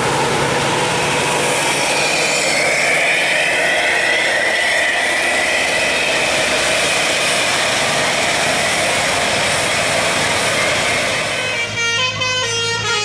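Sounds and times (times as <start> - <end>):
bus engine passing: 0.0 - 13.0
high engine whine: 0.0 - 13.0.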